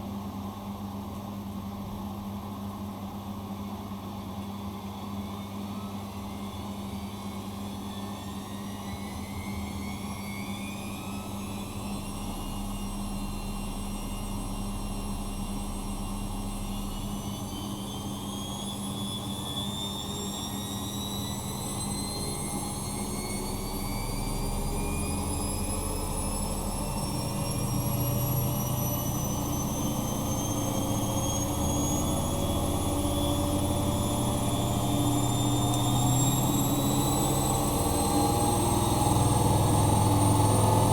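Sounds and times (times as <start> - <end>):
washing machine motor whine: 4.0 - 40.9.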